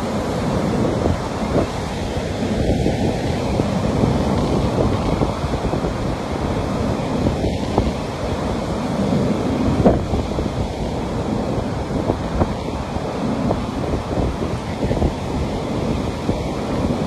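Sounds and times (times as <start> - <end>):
ocean surf breaking on a beach: 0.0 - 17.0
wind buffeting the microphone: 0.0 - 17.0.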